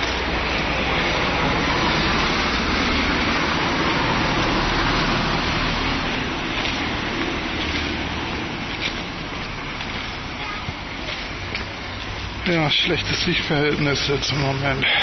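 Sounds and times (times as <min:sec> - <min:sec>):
cars driving through underpass: 0:00.0 - 0:15.0.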